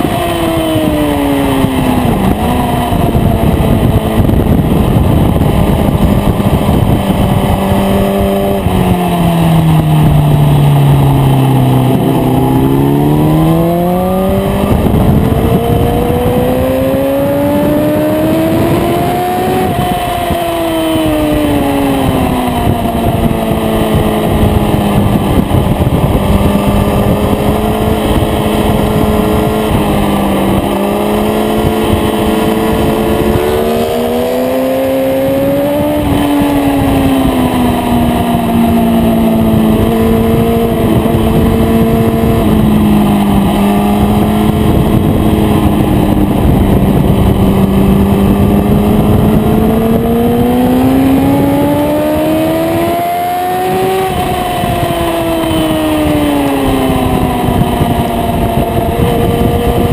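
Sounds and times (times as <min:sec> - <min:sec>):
heavy wind rush: 0:00.0 - 0:59.9
motorcycle engine revving high: 0:00.0 - 0:59.9.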